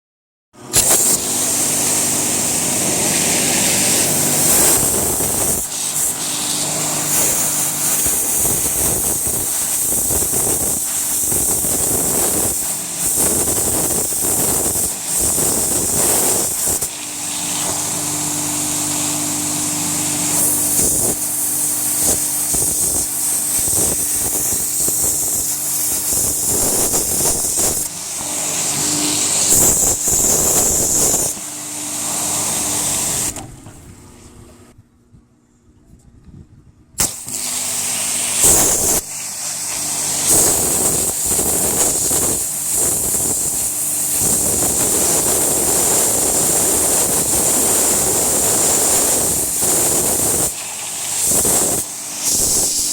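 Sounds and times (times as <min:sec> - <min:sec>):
pressure washer motor humming: 0:00.6 - 0:34.1, 0:37.0 - 0:52.9
high-pressure spray hissing on wood: 0:00.8 - 0:33.3, 0:37.0 - 0:52.9.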